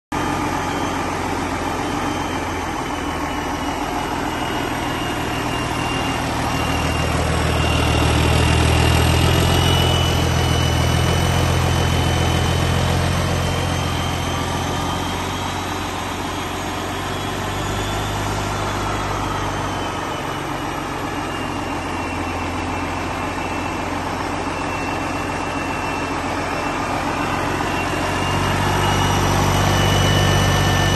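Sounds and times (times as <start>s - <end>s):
diesel engine idling: 0.1s - 30.9s
faint high whine: 0.2s - 30.9s.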